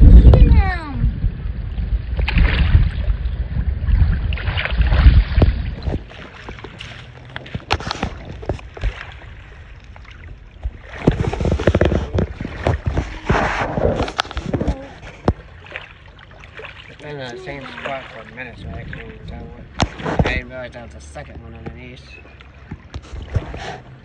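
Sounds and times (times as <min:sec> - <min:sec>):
wind buffeting microphone: 0:00.0 - 0:16.2, 0:17.3 - 0:20.8
shallow water sloshing and splashing: 0:00.0 - 0:24.0.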